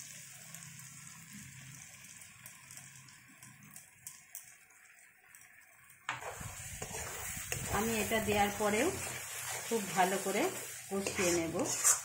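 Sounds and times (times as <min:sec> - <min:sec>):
hot oil sizzling and crackling: 0:00.0 - 0:12.0.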